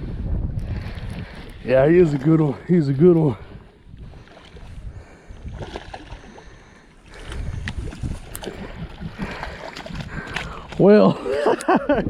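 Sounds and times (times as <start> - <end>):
wind rumbling on microphone: 0.0 - 12.0
water splashing: 0.9 - 11.9.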